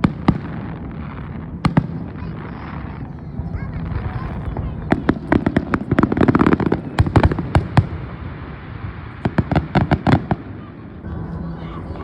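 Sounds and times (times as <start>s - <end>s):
fireworks cracking: 0.0s - 12.0s.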